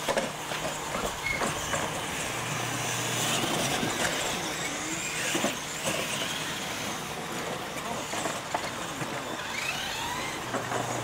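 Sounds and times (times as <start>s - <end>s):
rc truck motors running: 0.0s - 11.0s
tyres on dirt: 0.0s - 11.0s.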